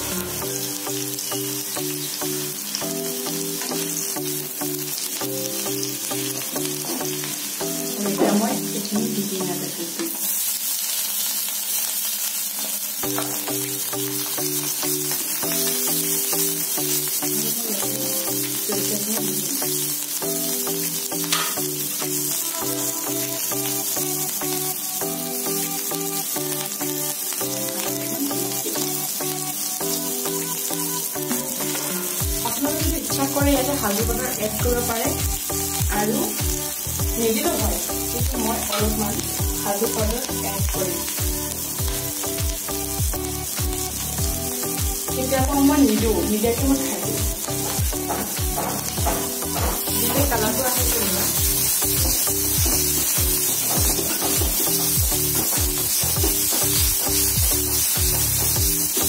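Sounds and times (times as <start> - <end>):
background music with beat: 0.0 - 9.2, 13.0 - 59.0
vegetables sizzling in hot oil: 0.0 - 59.0.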